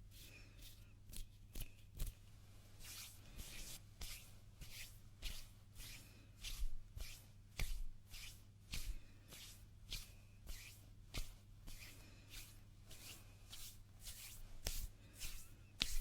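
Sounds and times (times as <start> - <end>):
hands rubbing with dry swish: 0.0 - 16.0.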